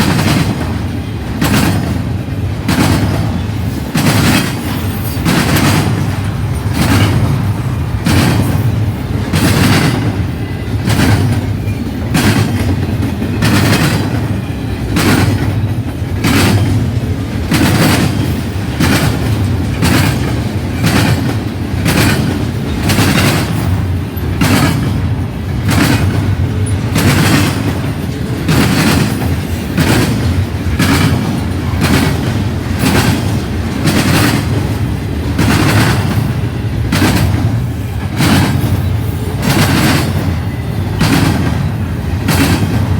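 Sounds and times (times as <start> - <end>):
train wheels rumbling on rails: 0.0 - 42.9
wheels clacking over rail joints: 0.0 - 42.9.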